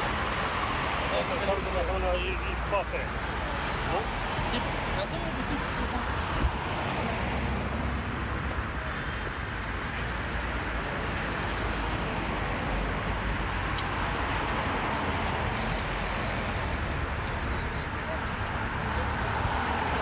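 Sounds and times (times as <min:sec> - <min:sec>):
passing vehicles rumble and hiss: 0:00.0 - 0:20.0.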